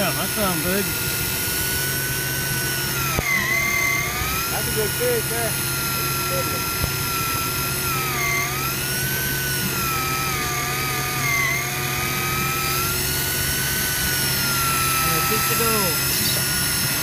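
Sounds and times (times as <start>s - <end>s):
fishing reel motor whining: 0.0s - 17.0s.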